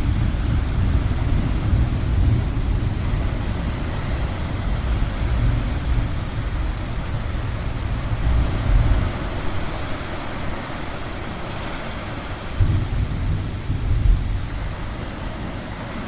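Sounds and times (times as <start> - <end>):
low rumble of thunder: 0.0 - 16.0
ocean surf: 0.0 - 16.0.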